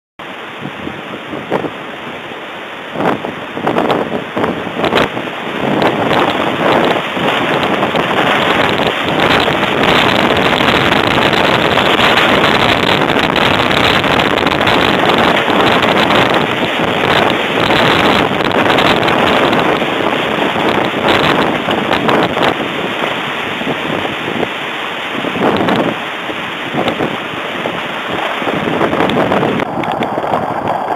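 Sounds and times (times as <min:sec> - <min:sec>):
wind and rain buffeting microphone: 0:00.2 - 0:30.9.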